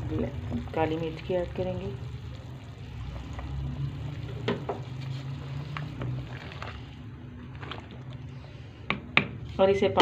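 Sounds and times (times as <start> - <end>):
broth bubbling in a pot: 0.0 - 10.0.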